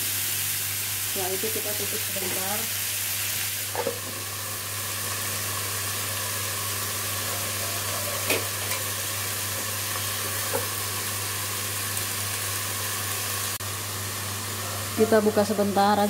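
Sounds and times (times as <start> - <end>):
food sizzling in a covered wok: 0.0 - 16.0.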